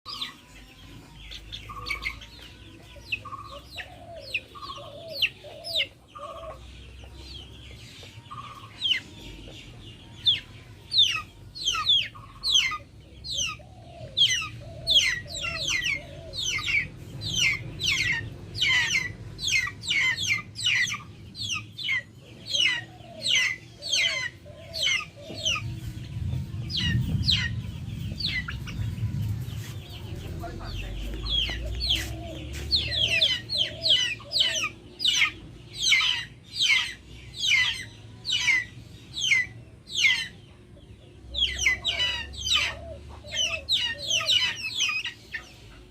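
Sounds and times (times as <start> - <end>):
chickens clucking: 0.1 - 45.9.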